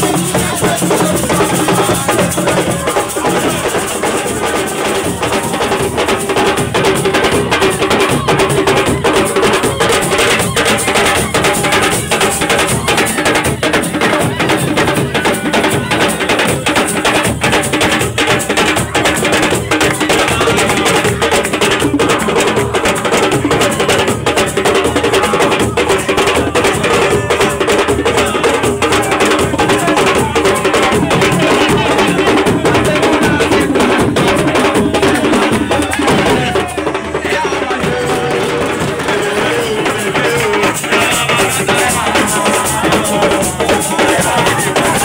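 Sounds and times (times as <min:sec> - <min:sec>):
fast percussion music: 0:00.0 - 0:45.0
wavering voices: 0:00.0 - 0:45.0.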